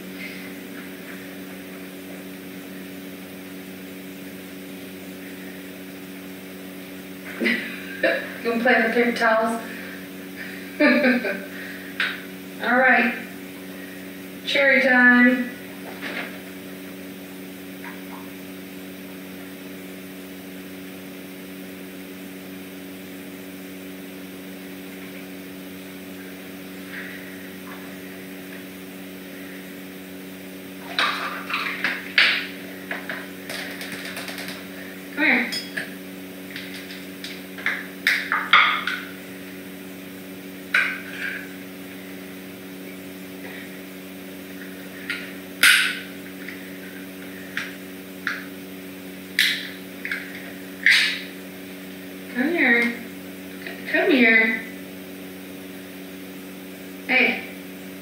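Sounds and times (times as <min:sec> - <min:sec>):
low electrical hum: 0:00.0 - 0:58.0.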